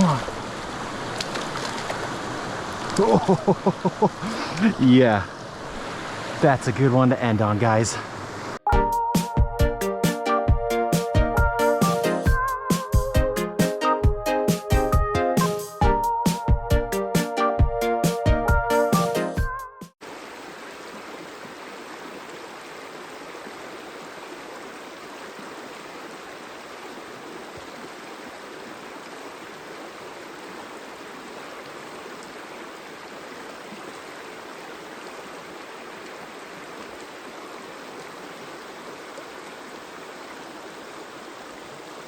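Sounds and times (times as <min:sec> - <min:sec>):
creek water running: 0:00.0 - 0:13.7, 0:20.0 - 0:42.0.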